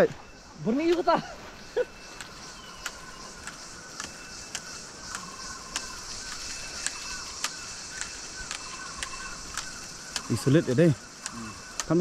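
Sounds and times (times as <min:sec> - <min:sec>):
insects chirring: 0:00.0 - 0:12.0
sharp regular ticks: 0:02.0 - 0:12.0.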